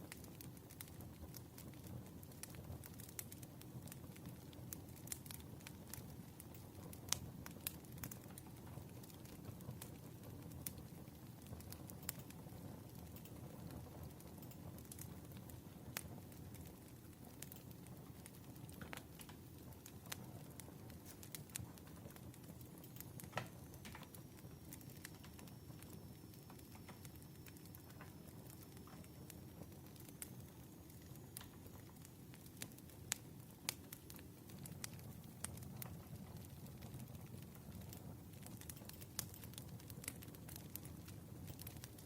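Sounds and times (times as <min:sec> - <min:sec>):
fire pops and snaps: 0:00.0 - 0:42.0
low rumble of flames: 0:00.0 - 0:42.0.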